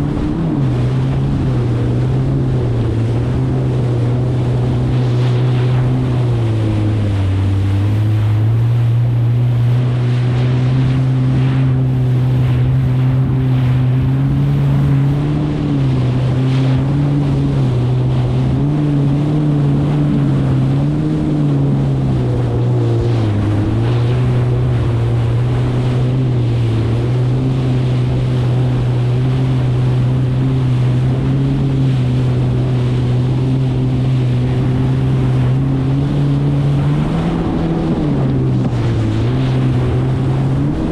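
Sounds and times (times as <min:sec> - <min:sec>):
jet ski engine running: 0:00.0 - 0:40.9
water rushing: 0:00.0 - 0:40.9
wind noise on microphone: 0:00.0 - 0:40.9.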